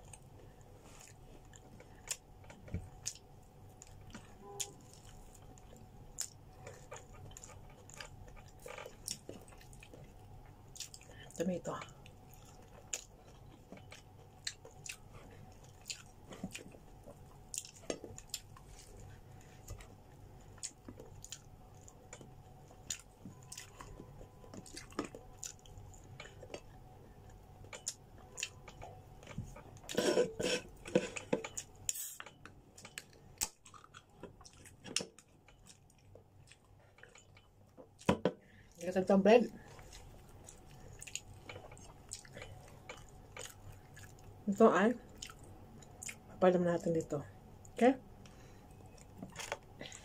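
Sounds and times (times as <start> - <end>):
person chewing food: 0.0 - 38.8, 39.6 - 44.4, 45.1 - 46.3, 48.2 - 50.0.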